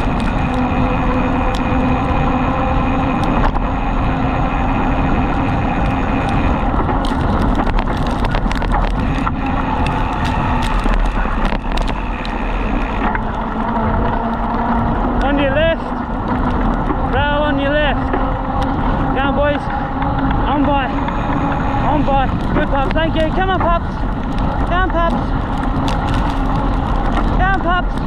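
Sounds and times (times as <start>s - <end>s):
bicycle tyres on dirt road: 0.0s - 28.0s
bike rattling and clicking: 0.0s - 28.0s
steady hum: 0.0s - 28.0s
wind rush: 0.0s - 28.0s.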